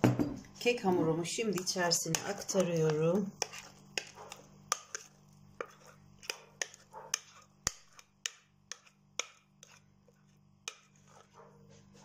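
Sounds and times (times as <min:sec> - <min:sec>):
utensil scraping mixing bowl: 0:00.0 - 0:12.0.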